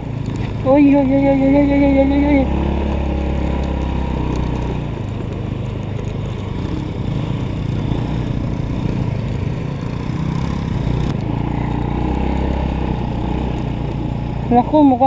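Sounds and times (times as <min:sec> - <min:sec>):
scooter engine droning: 0:00.0 - 0:15.0.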